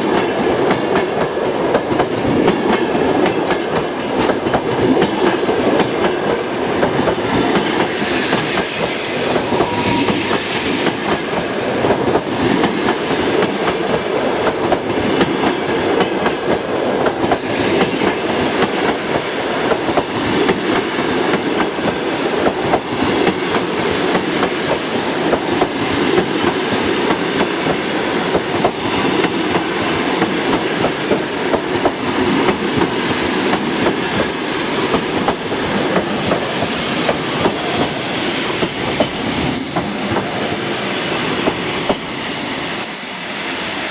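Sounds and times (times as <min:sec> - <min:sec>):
train wheels clattering on rails: 0:00.0 - 0:42.8.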